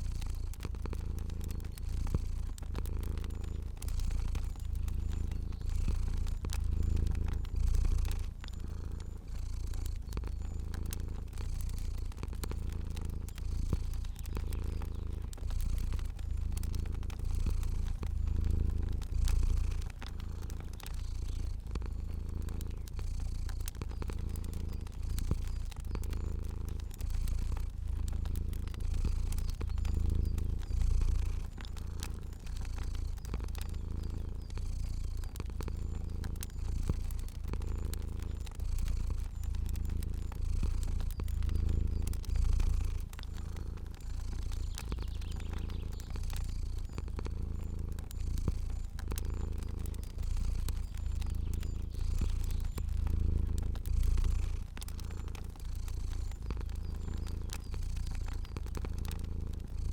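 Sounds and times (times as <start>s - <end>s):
cat purring: 0.0s - 59.9s
fire crackling and popping: 0.0s - 59.9s.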